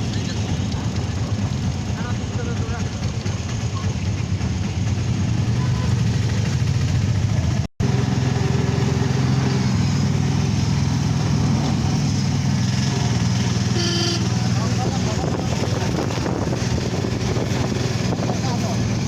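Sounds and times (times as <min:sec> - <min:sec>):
road noise: 0:00.0 - 0:19.0
vehicle engine running: 0:00.0 - 0:19.0.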